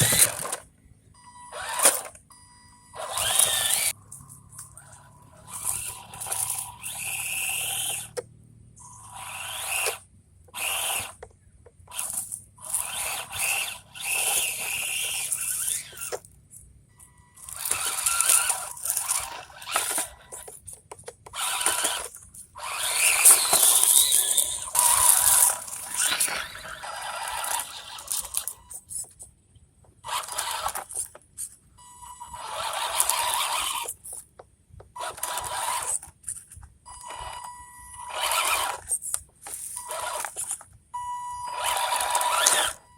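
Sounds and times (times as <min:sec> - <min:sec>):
rc electric motor whining: 0:00.0 - 0:00.6, 0:01.5 - 0:02.2, 0:02.9 - 0:11.3, 0:11.9 - 0:16.2, 0:17.0 - 0:29.2, 0:30.0 - 0:31.2, 0:32.2 - 0:34.3, 0:34.9 - 0:42.9.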